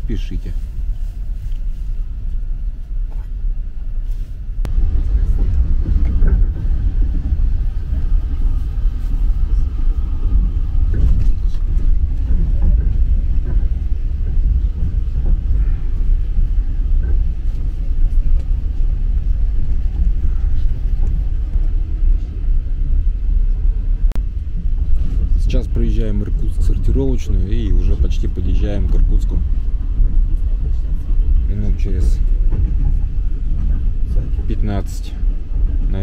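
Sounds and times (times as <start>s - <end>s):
train carriage rumble on rails: 0.0s - 36.0s.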